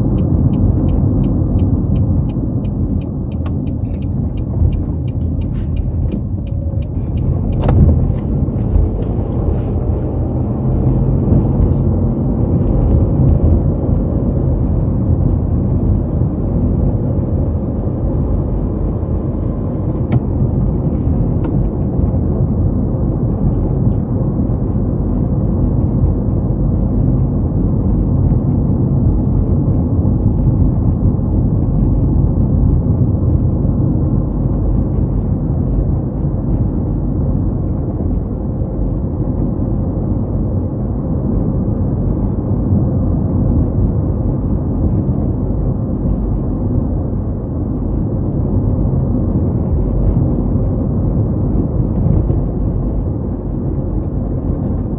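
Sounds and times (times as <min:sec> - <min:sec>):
car driving on road: 0:00.0 - 0:54.9.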